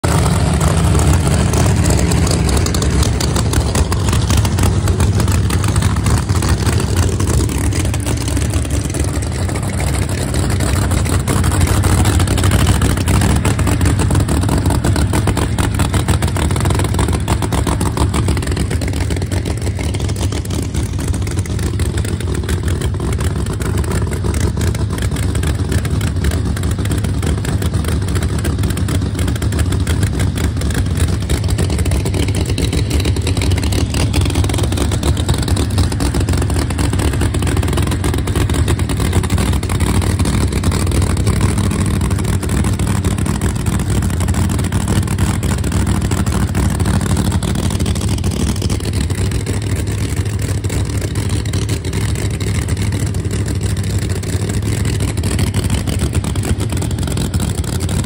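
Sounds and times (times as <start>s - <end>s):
race car engines rumbling: 0.0s - 58.0s.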